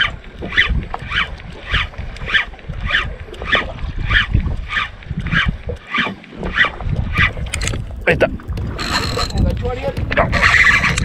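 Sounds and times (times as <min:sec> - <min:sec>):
fishing reel cranking: 0:00.0 - 0:07.9, 0:08.6 - 0:11.0
wind on microphone: 0:00.0 - 0:11.0.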